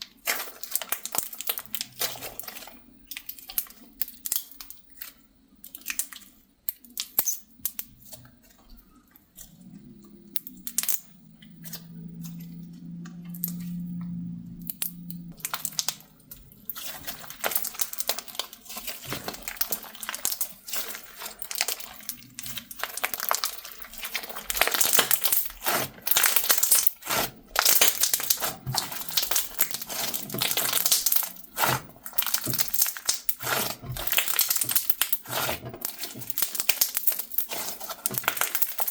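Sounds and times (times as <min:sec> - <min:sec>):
crunchy slime crackling and popping: 0:00.0 - 0:08.3, 0:10.2 - 0:38.9.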